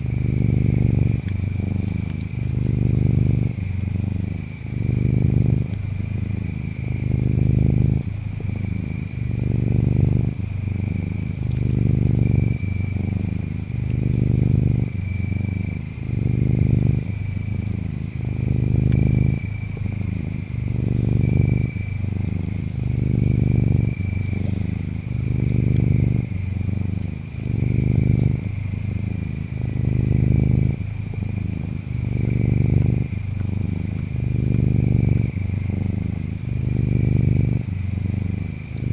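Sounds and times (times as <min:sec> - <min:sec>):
cat purring: 0:00.0 - 0:38.9
insects trilling: 0:00.0 - 0:38.9.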